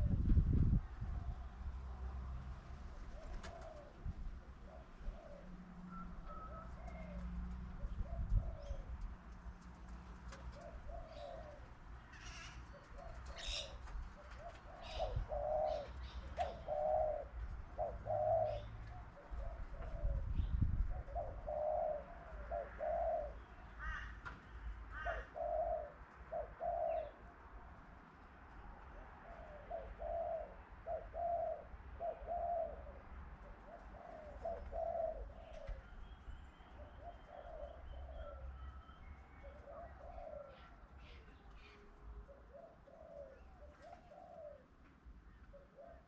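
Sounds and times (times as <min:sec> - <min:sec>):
pigeons cooing: 0:02.9 - 0:24.2, 0:24.9 - 0:27.4, 0:28.8 - 0:46.0.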